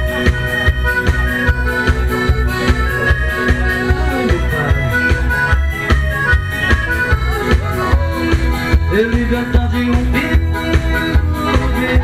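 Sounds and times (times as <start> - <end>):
electronic keyboard dance music: 0.0 - 12.0.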